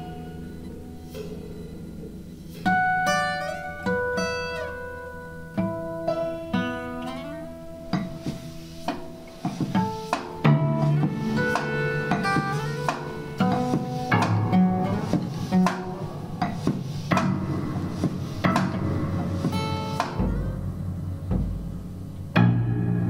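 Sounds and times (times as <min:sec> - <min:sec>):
small band playing sparse music: 0:00.0 - 0:23.0.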